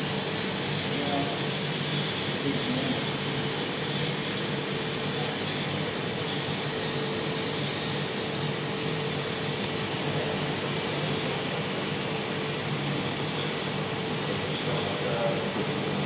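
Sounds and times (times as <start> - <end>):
ventilation machinery humming: 0.0 - 16.0.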